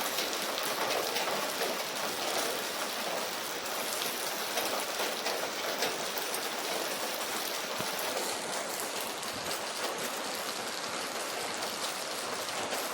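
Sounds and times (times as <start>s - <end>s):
raindrops tapping a surface: 0.0s - 12.9s
steady rain hiss: 0.0s - 12.9s.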